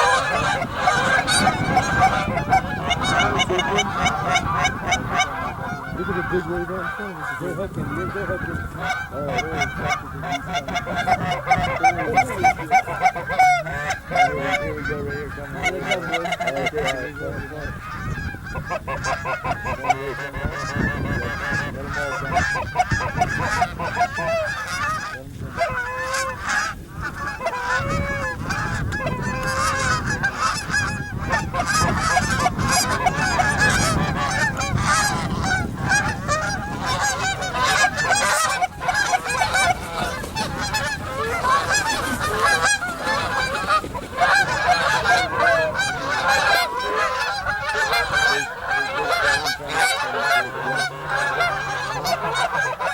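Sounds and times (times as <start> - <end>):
geese honking: 0.0 - 52.9.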